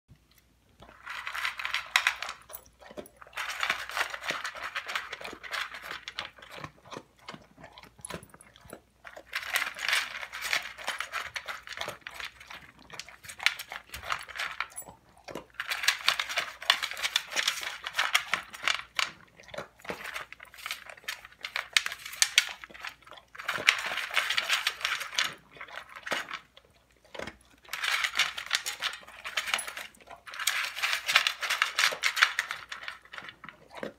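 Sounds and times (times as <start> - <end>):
dog crunching dry kibble: 0.1 - 33.9.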